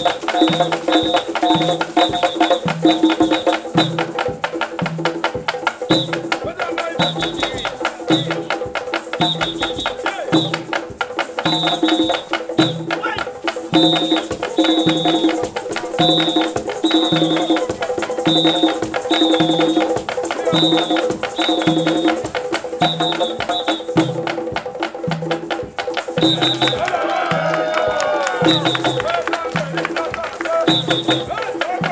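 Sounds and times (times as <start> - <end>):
hand drum ensemble: 0.0 - 31.9.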